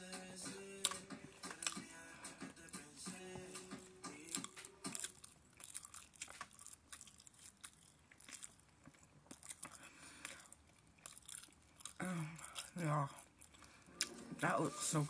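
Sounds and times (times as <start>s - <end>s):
person chewing food: 0.8s - 2.0s, 3.2s - 14.3s.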